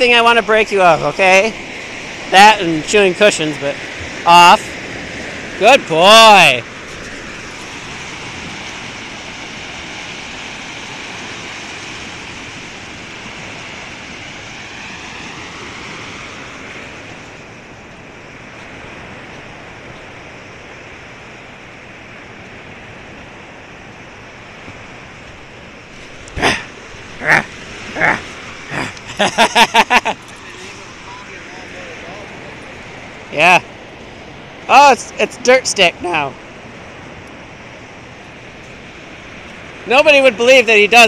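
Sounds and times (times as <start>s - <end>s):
lake waves washing onto shore: 0.0s - 41.0s.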